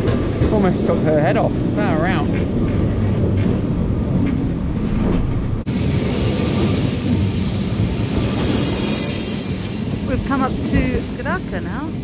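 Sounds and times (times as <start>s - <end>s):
tram wheels rumbling and rattling: 0.0s - 12.0s.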